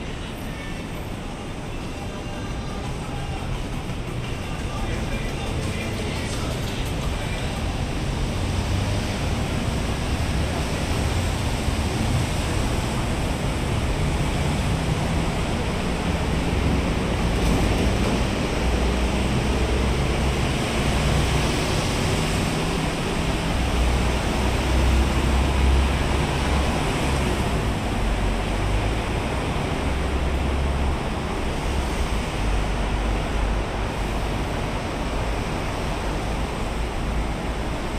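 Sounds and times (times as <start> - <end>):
road traffic: 0.0 - 37.9.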